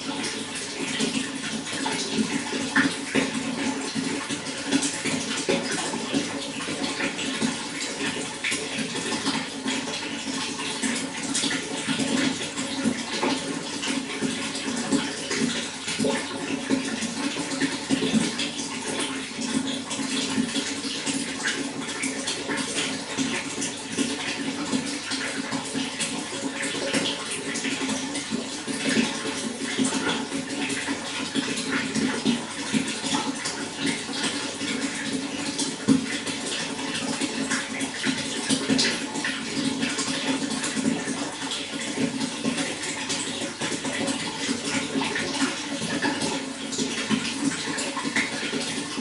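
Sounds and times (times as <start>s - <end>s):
running water splashing and gurgling: 0.0s - 49.0s.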